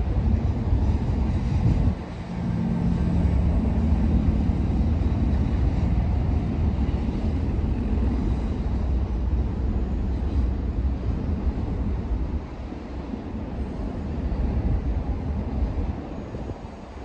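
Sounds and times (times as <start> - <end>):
distant freight train rumble: 0.0 - 17.0
wind on microphone: 0.0 - 17.0.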